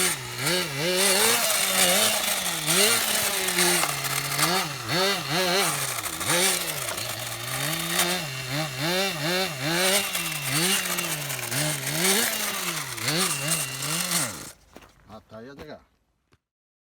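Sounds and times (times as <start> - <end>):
small model engine revving: 0.0 - 14.6.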